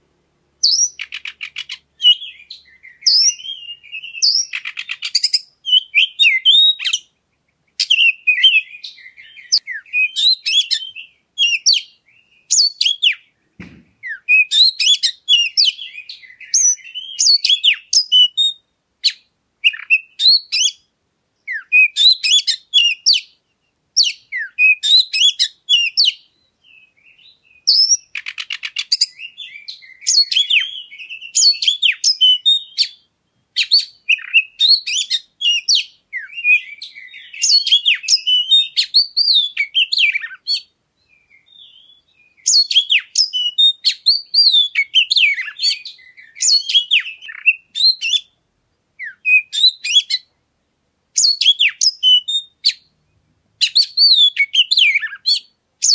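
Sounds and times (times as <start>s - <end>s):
bird singing whistled phrases: 0.6s - 7.1s, 7.8s - 13.3s, 14.0s - 23.4s, 24.0s - 48.4s, 49.0s - 50.3s, 51.2s - 52.9s, 53.6s - 55.9s.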